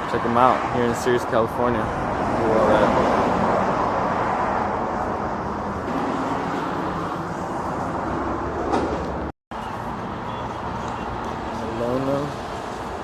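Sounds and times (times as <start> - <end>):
road and traffic noise: 0.0 - 13.0
vehicle engine rumble: 0.0 - 13.0.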